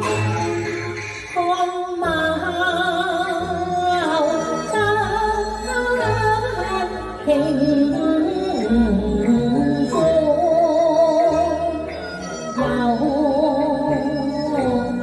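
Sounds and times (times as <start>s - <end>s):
instrumental accompaniment: 0.0s - 15.0s
opera singing: 1.4s - 15.0s.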